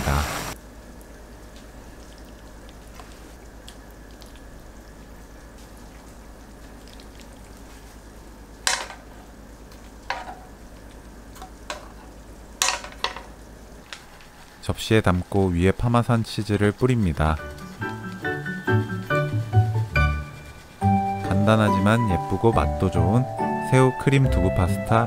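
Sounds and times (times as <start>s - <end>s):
steady low hiss: 0.0s - 25.0s.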